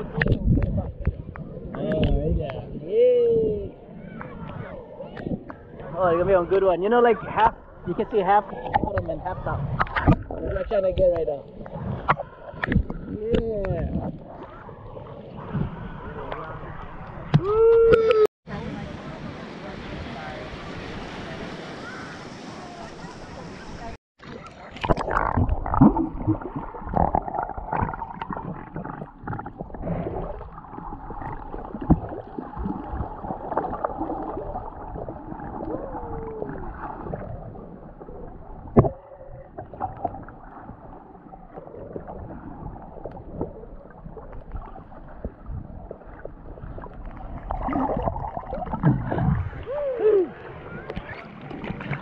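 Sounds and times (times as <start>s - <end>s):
underwater sloshing and gurgling: 0.0s - 17.4s, 22.4s - 52.0s.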